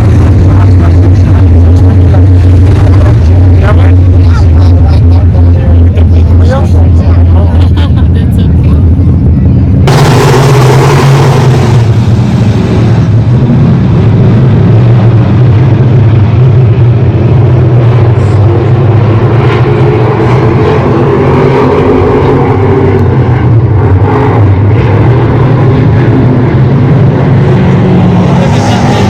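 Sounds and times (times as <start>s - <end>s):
race car engines droning: 0.0s - 29.0s.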